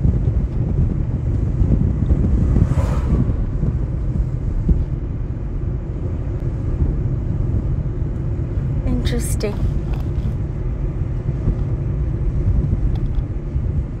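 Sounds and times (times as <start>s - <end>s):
car driving rumble: 0.0s - 14.0s
wind buffeting microphone: 0.0s - 14.0s.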